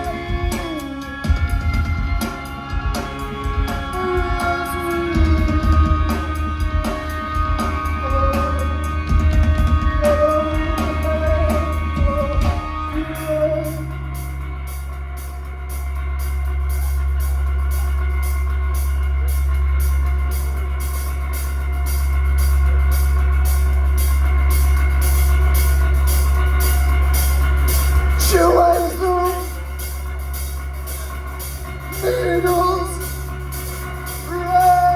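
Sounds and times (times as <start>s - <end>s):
fast drum beat: 0.0s - 34.9s
low bass drone: 0.0s - 34.9s
rock band playing: 0.0s - 34.9s.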